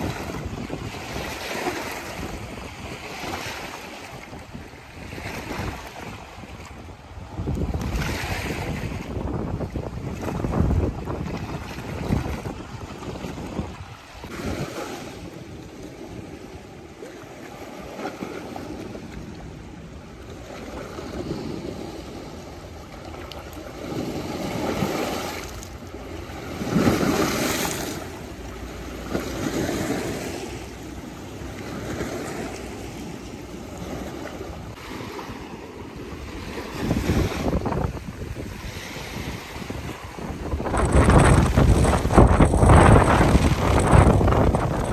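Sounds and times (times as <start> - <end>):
waves splashing against rocks: 0.0 - 44.9.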